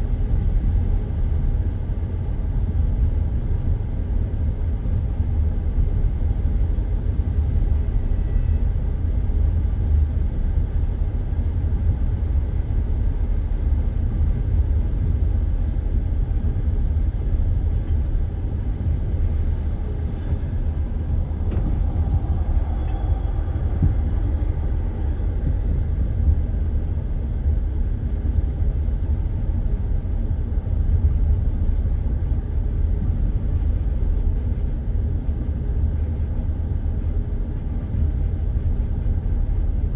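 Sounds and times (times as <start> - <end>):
train carriage rumbling on rails: 6.6 - 39.9.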